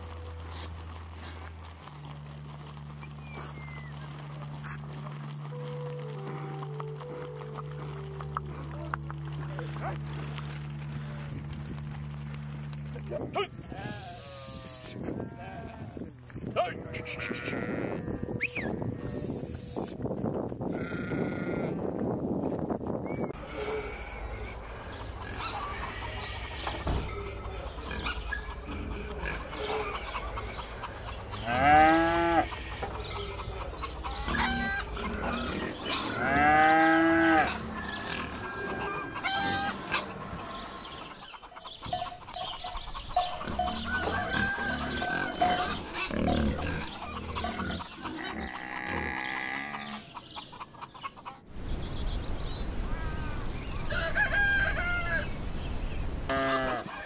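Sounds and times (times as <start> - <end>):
farm animals calling: 0.0 - 20.0, 20.6 - 21.9, 23.0 - 57.0.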